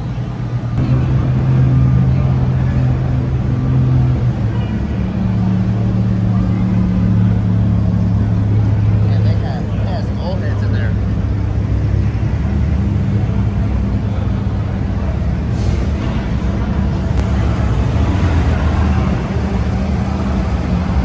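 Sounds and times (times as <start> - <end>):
car engines idling: 0.0 - 21.0.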